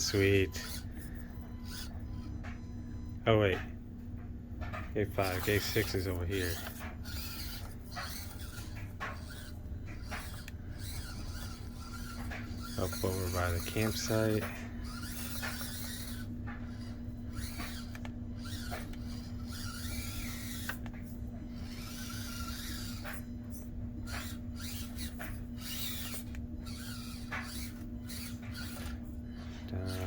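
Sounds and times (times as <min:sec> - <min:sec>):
toy car motor whining: 0:00.0 - 0:03.6, 0:04.7 - 0:30.0.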